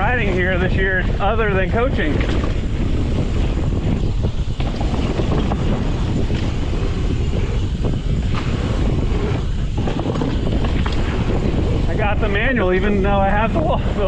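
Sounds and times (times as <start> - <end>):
bike clicks and rattles: 0.0 - 14.0
bike tyres rolling over dirt: 0.0 - 14.0
wind buffeting microphone: 0.0 - 14.0.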